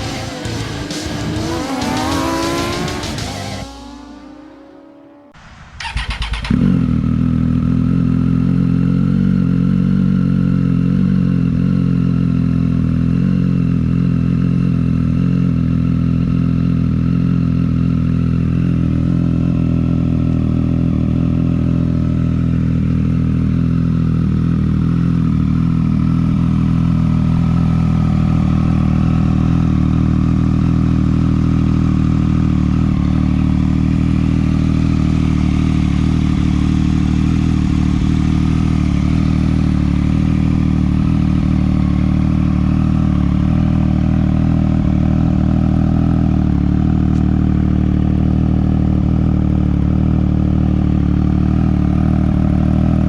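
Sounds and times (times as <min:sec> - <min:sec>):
motorcycle engine idling: 0:05.8 - 0:53.0.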